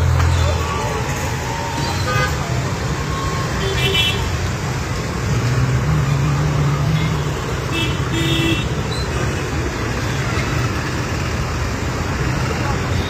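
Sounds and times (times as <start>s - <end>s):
traffic on wet street: 0.0s - 13.0s.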